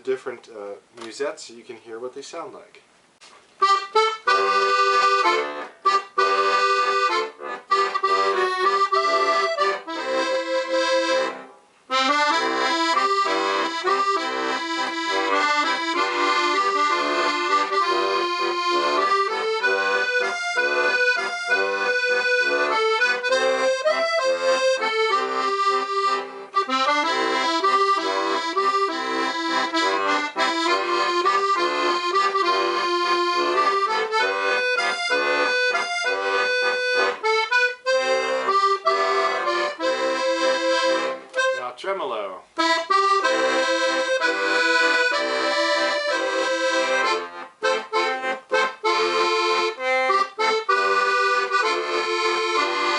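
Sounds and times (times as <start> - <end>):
accordion playing a tune: 3.6 - 52.9.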